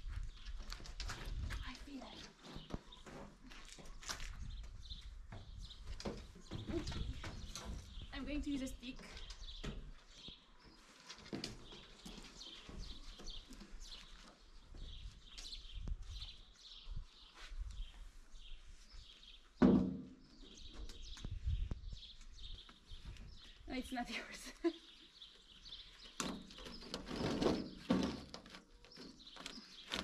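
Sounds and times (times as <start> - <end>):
small birds chirping: 0.0 - 19.6, 20.2 - 30.0.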